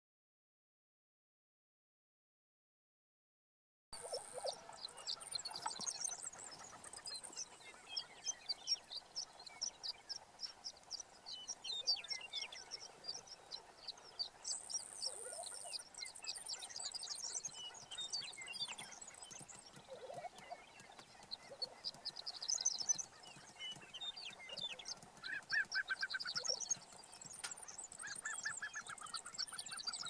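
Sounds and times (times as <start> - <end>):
low gobbling calls: 4.0 - 10.2, 11.8 - 30.0
prairie chickens clucking: 4.0 - 30.0.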